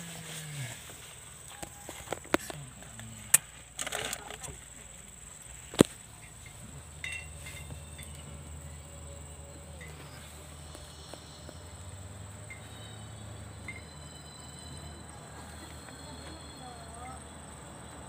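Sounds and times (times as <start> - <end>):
car engine running low: 0.0 - 17.9.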